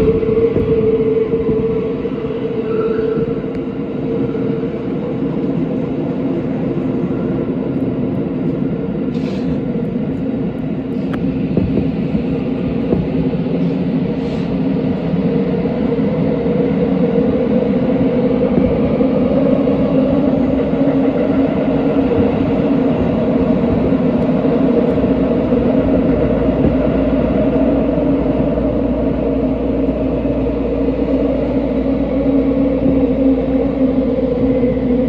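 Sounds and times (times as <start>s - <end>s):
subway train rumbling in tunnel: 0.0s - 35.0s.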